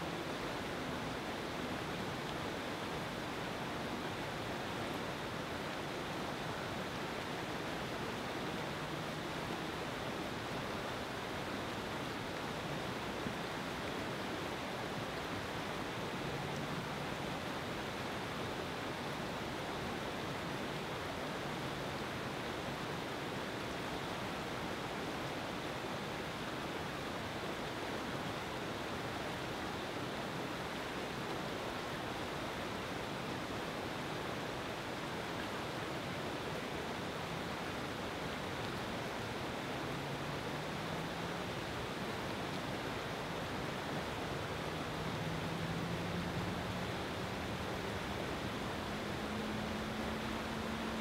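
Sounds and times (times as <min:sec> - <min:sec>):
river rapids roaring: 0:00.0 - 0:51.0.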